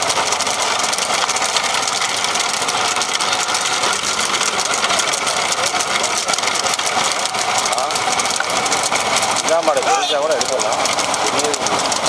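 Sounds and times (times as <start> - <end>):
engine running with chatter: 0.0 - 12.0.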